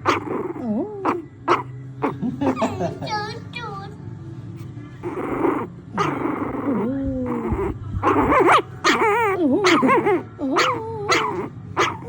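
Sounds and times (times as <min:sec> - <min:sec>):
dog grumbling and whining: 0:00.0 - 0:03.0, 0:05.0 - 0:12.0.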